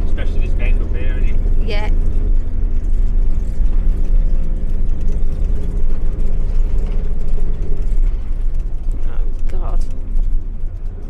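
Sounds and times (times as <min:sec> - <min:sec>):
deep road rumble: 0:00.0 - 0:11.0
engine running under load: 0:00.0 - 0:11.0.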